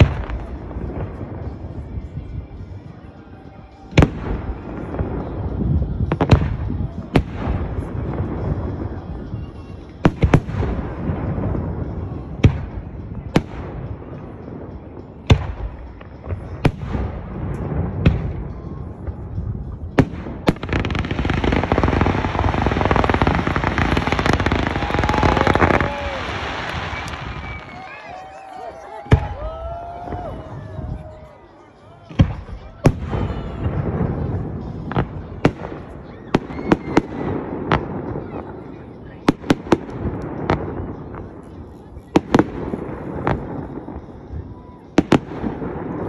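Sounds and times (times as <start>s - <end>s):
crackling fountain fireworks: 0.0s - 46.0s.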